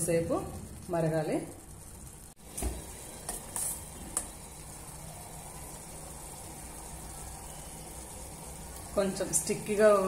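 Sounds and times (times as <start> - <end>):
syrup bubbling in pot: 0.1 - 10.0.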